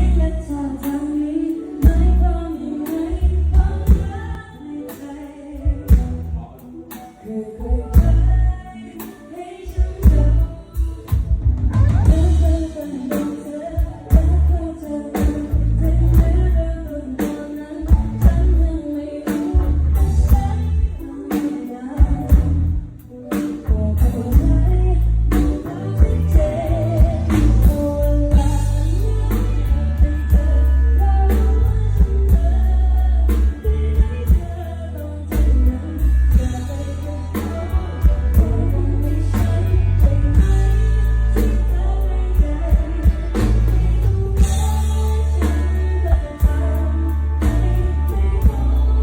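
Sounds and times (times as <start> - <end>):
band with bass and drums: 0.0 - 49.0
person singing pop song live: 0.0 - 49.0.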